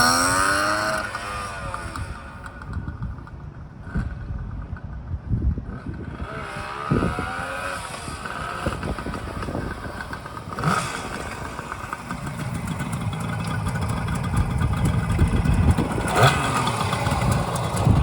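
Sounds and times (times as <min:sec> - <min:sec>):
motorcycle engine revving: 0:00.0 - 0:04.3, 0:05.4 - 0:18.0.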